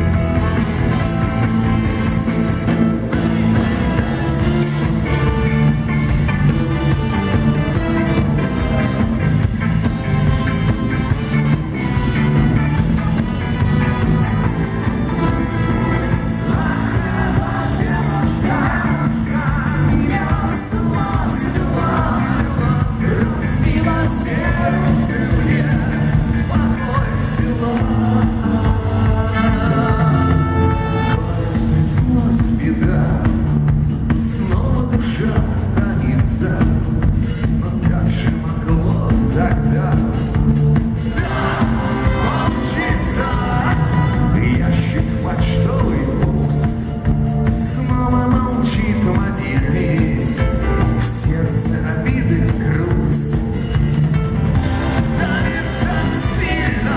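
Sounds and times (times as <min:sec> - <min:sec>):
person singing: 0:00.0 - 0:33.6, 0:34.3 - 0:53.8, 0:54.6 - 0:56.9
rock band playing: 0:00.0 - 0:56.9.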